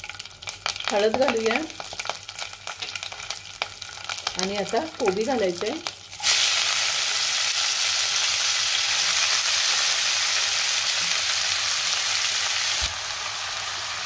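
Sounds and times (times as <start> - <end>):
cabbage sizzling in hot oil: 0.0 - 14.0.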